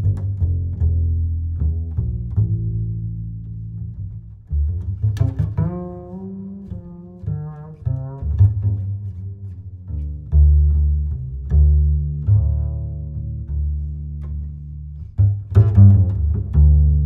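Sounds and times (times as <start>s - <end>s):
plucked bass line: 0.0s - 17.0s.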